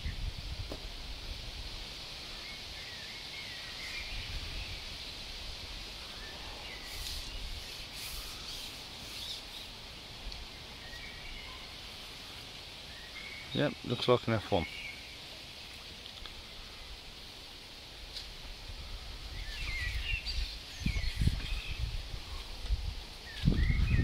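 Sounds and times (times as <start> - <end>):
steady hiss: 0.0 - 24.0
small birds chirping: 2.2 - 17.1, 18.2 - 24.0.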